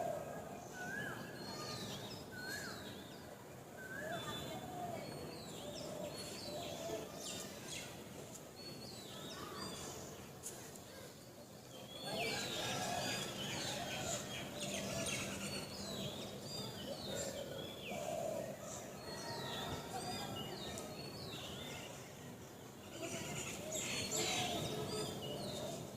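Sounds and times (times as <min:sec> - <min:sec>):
outdoor background noise: 0:00.0 - 0:25.9.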